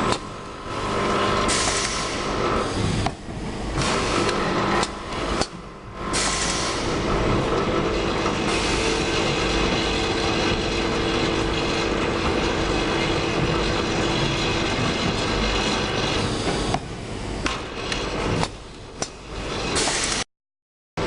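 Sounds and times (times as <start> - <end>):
assembly machine clatter and hum: 0.0 - 20.3.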